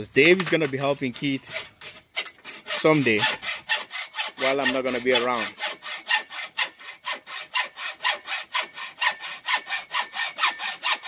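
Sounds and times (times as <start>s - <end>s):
hacksaw cutting metal: 0.3s - 11.0s.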